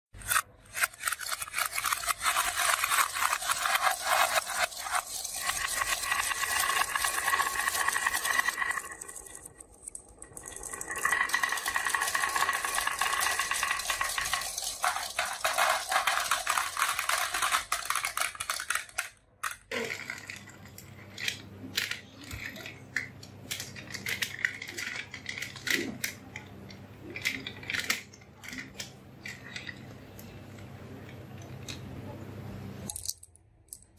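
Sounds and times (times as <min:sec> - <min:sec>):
marbles rattling down wooden slope: 0:00.2 - 0:29.8.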